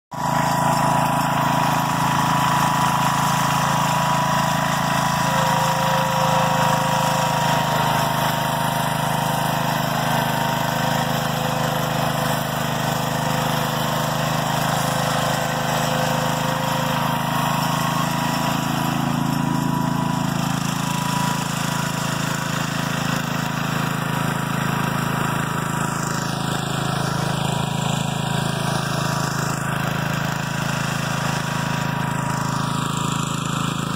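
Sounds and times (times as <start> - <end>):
garden tractor engine under load: 0.1 - 33.9.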